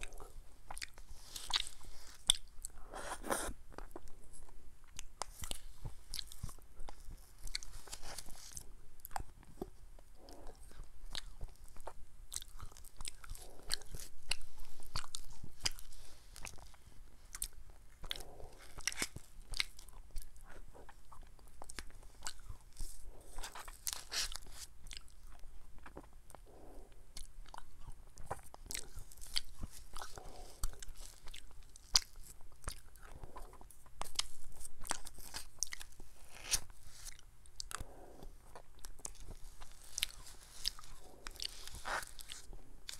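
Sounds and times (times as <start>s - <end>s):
chewing: 0.0s - 42.9s.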